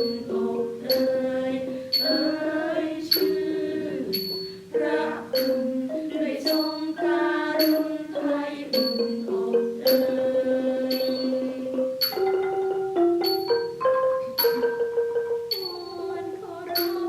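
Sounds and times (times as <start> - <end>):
bright metallic beat strokes: 0.0 - 17.0.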